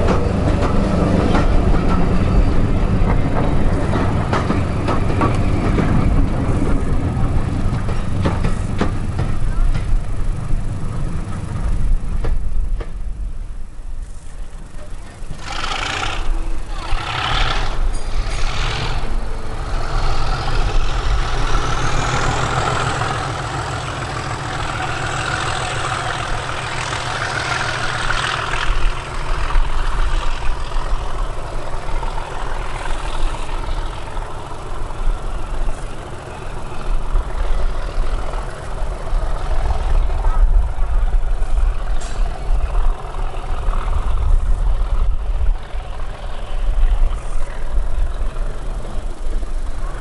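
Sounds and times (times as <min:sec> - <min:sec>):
diesel locomotive engine: 0:00.0 - 0:50.0.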